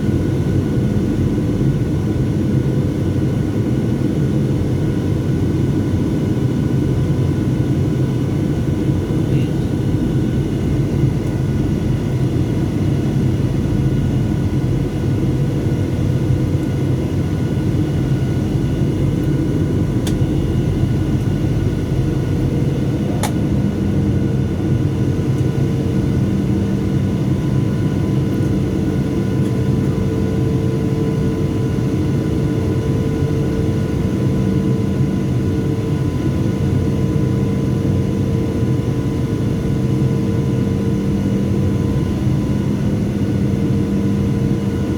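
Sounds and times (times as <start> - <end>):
airplane cabin engine drone: 0.0 - 44.9.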